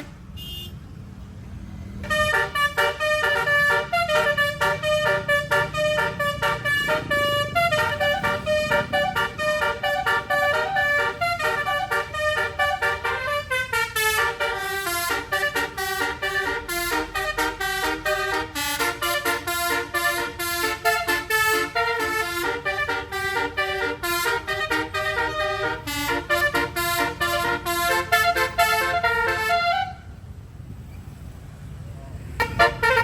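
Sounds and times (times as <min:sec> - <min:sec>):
bus horn playing tune: 0:00.0 - 0:00.7, 0:02.0 - 0:30.2, 0:32.4 - 0:33.0
bus engine rumbling: 0:00.0 - 0:33.0.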